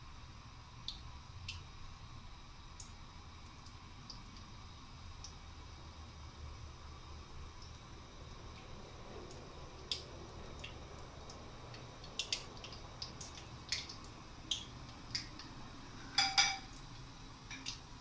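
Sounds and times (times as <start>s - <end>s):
deep-frying sizzle with pops: 0.0s - 18.0s.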